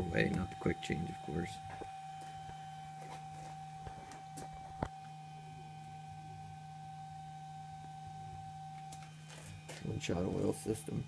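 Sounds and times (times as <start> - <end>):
low electrical hum: 0.0 - 11.0
thin constant whine: 0.0 - 11.0.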